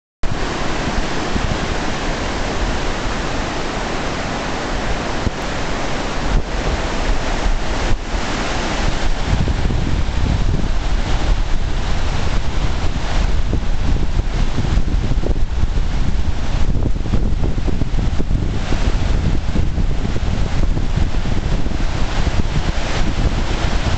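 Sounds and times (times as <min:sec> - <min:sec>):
river rushing over rocks: 0:00.2 - 0:23.9.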